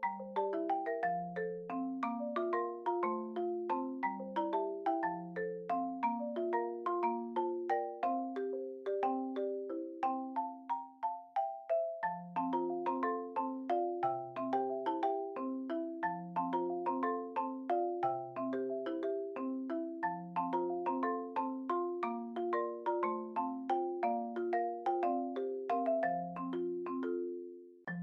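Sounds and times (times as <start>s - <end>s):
bouncy mallet tune with bass: 0.0s - 28.0s.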